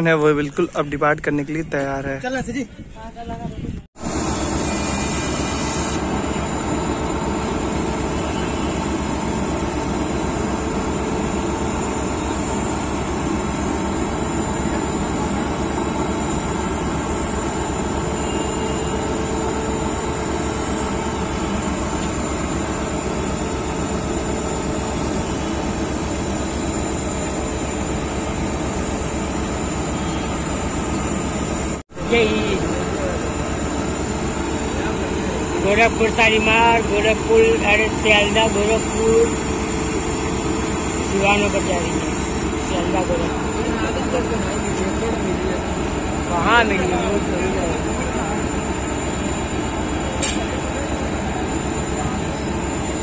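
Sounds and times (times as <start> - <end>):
locomotive blowers running: 4.0 - 53.0.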